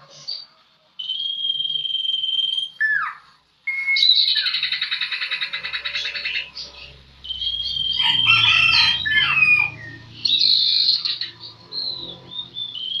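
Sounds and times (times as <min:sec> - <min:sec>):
bird trill: 0:00.0 - 0:13.0
songbird chirping and whistling: 0:00.0 - 0:13.0.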